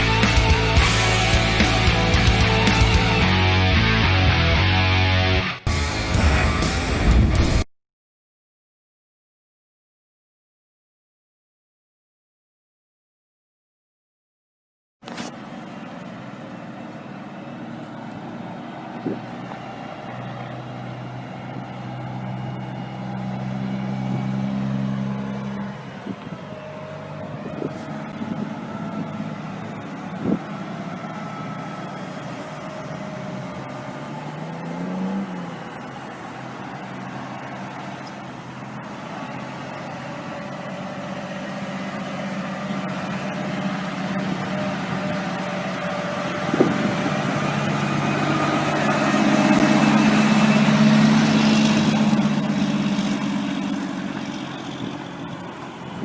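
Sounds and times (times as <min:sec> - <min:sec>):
truck diesel engine running: 0:00.0 - 0:07.6, 0:15.2 - 0:56.0.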